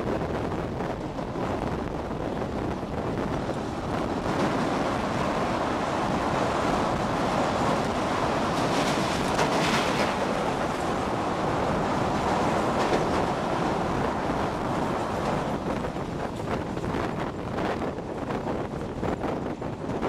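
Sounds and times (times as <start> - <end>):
train wheels rumbling on bridge: 0.0 - 20.0
wind rushing over microphone: 0.0 - 20.0.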